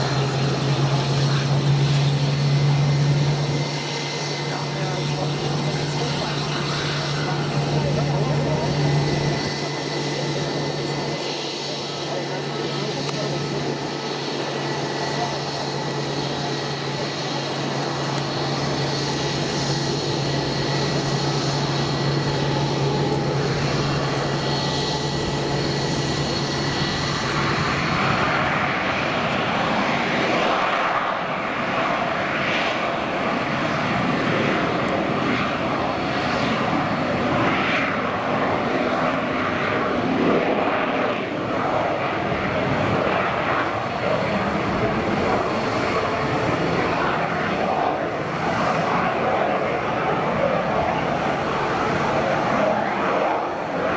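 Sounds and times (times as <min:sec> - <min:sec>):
jet engines whining: 0:00.0 - 0:53.9
loud rushing jet noise: 0:00.0 - 0:53.9.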